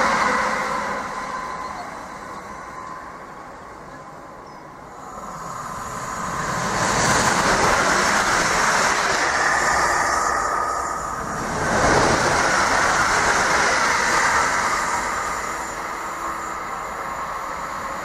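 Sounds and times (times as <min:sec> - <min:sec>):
train rushing past: 0:00.0 - 0:18.0.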